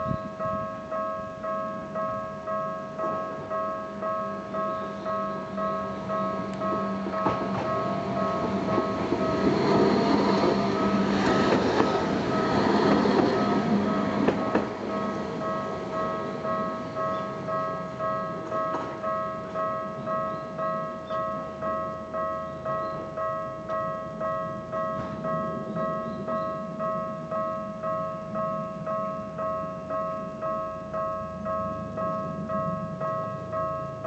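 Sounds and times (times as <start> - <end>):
level crossing alarms dinging: 0.0 - 34.0
train rumbling across crossing: 0.0 - 34.0.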